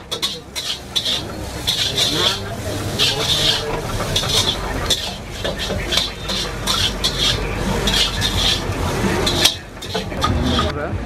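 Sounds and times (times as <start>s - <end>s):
faint frying hiss: 0.0s - 10.7s
metal spatula scraping wok: 0.0s - 10.7s.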